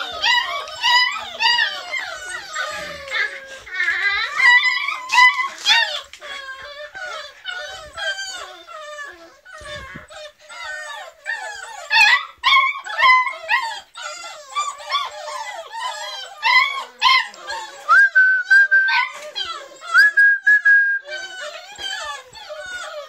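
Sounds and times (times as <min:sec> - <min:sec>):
puppies whining and yelping: 0:00.0 - 0:23.0.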